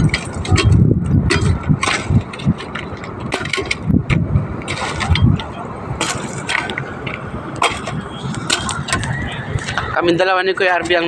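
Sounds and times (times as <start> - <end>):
sharp clicks and knocks: 0.0 - 9.9
wind rumbling on microphone: 0.0 - 11.0.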